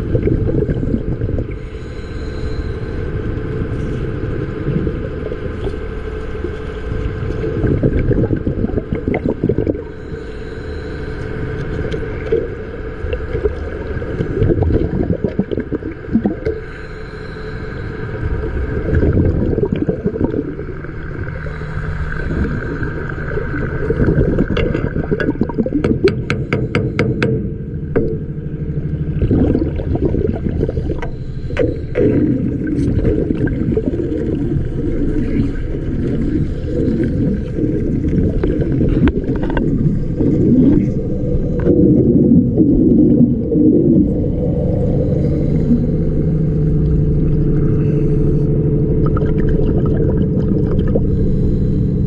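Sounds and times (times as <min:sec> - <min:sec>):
bubbling and gurgling: 0:00.0 - 0:17.0, 0:17.8 - 0:52.0
underwater hum and low rumble: 0:00.0 - 0:52.0.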